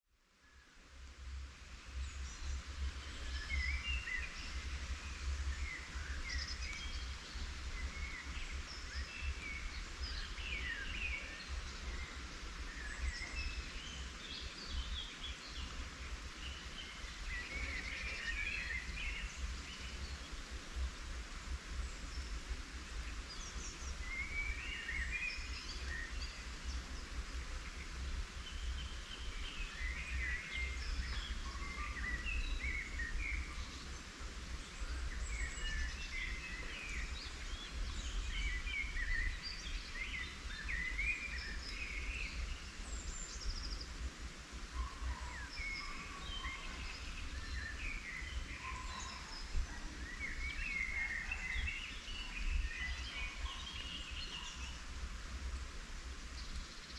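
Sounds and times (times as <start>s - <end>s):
songbirds chirping and trilling: 0.4s - 56.9s.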